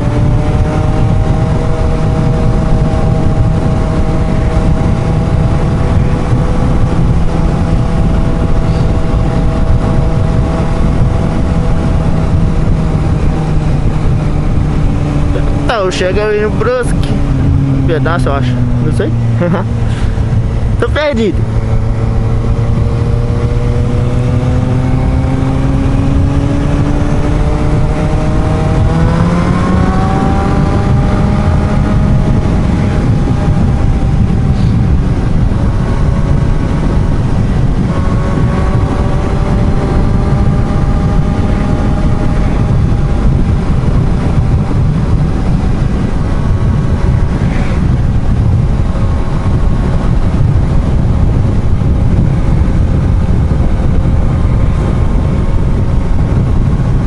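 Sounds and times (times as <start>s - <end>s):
heavy wind rush: 0.0s - 57.0s
motorcycle engine accelerating: 0.0s - 57.0s.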